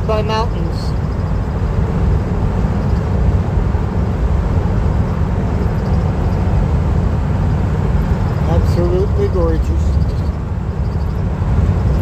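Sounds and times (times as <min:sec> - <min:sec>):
road and engine rumble inside van: 0:00.0 - 0:12.0.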